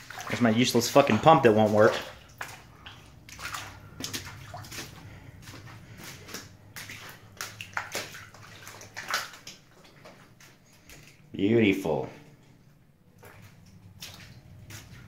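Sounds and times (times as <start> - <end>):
footsteps splashing on wet tile: 0.0 - 11.2, 12.4 - 15.0
faint low hum: 0.0 - 15.0.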